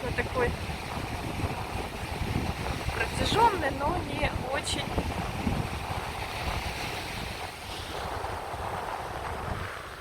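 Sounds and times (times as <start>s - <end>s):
rough sea surf washing ashore: 0.0s - 10.0s
wind buffeting the microphone: 0.0s - 10.0s.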